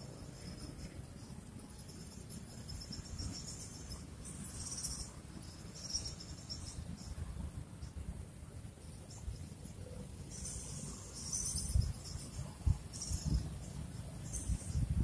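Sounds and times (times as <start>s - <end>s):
insects trilling: 0.0s - 8.0s, 8.8s - 15.0s.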